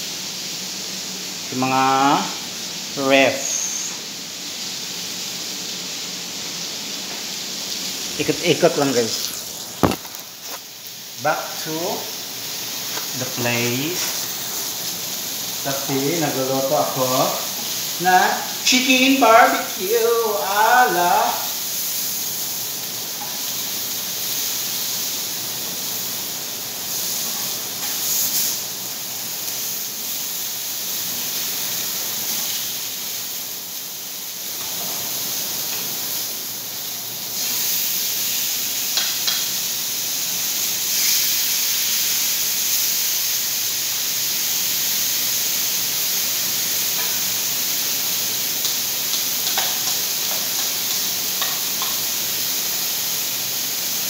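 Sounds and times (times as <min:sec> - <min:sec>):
chicken sizzling on steel plate: 0:00.0 - 0:54.0.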